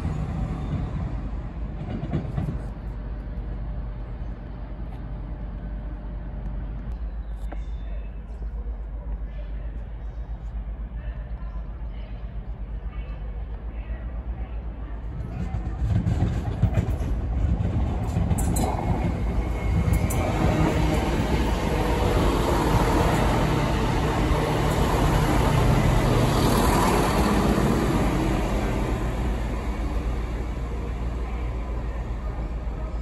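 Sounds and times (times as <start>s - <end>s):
diesel train passing: 0.0s - 7.7s, 11.6s - 33.0s.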